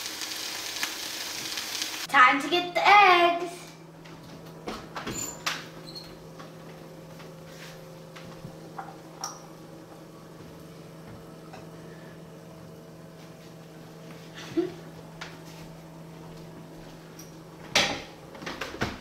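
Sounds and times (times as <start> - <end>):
steady low hum: 2.0 - 19.0.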